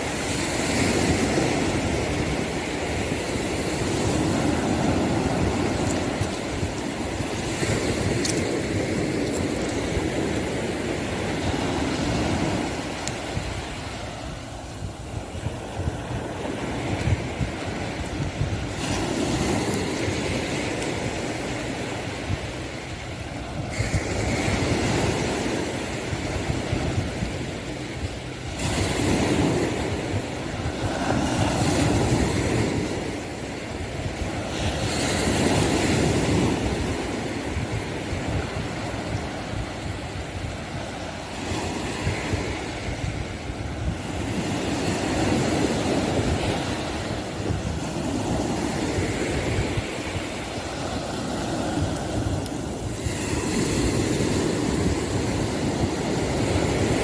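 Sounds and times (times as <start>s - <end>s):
sea surf breaking on shore: 0.0s - 57.0s
wind rumbling on microphone: 0.0s - 57.0s.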